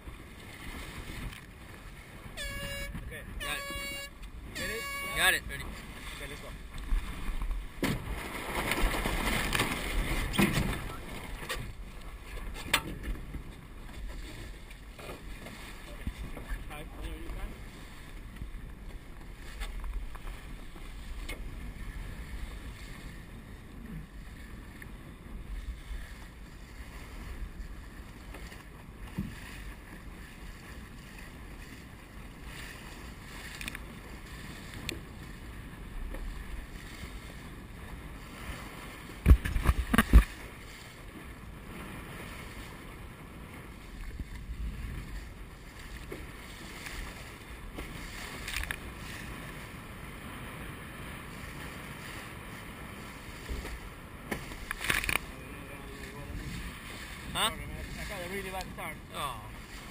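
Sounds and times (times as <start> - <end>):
water splashing along hull: 0.0 - 59.9
wind buffeting microphone: 5.4 - 59.9.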